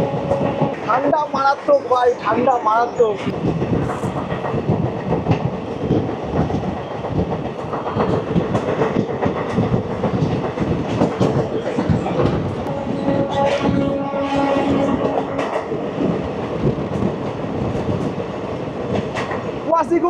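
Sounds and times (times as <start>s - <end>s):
train running rumble: 0.0s - 20.0s
train wheels clattering on rails: 3.1s - 20.0s.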